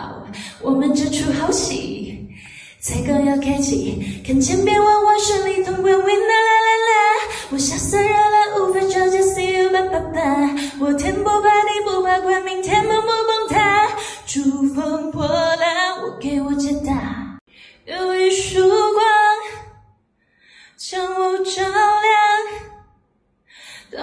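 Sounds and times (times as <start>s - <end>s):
woman singing into a microphone: 0.0s - 19.8s, 20.8s - 22.8s.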